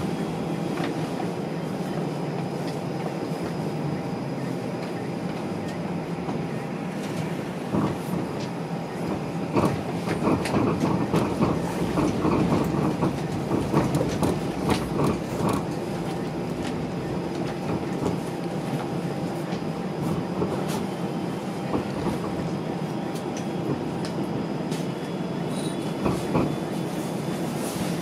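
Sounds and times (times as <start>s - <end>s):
streetcar wheels rumbling on rail: 0.0s - 28.0s.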